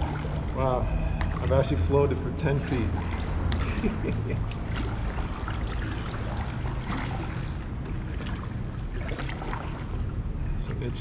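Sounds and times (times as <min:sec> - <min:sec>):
small splashes: 0:00.0 - 0:10.3
water lapping and dripping: 0:00.0 - 0:10.8
low steady rumble: 0:00.0 - 0:11.0.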